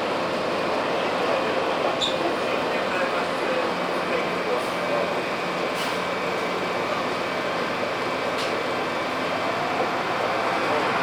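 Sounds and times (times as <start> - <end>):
boat engine: 0.0 - 11.0.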